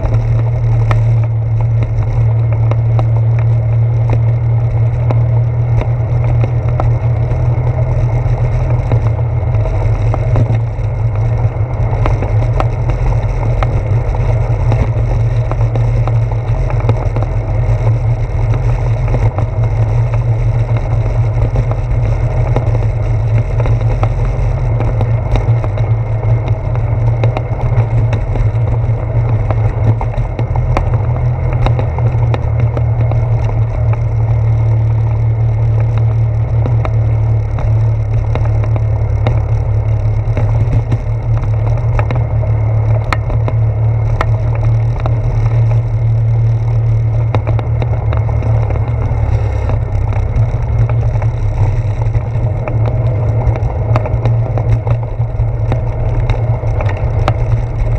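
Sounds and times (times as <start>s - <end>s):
bicycle tyres rolling on boardwalk: 0.0s - 57.9s.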